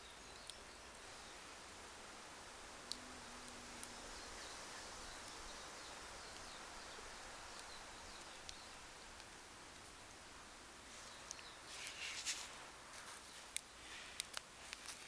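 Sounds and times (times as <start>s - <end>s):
steady outdoor hiss: 0.0s - 15.0s
wood fire crackling and popping: 0.0s - 15.0s.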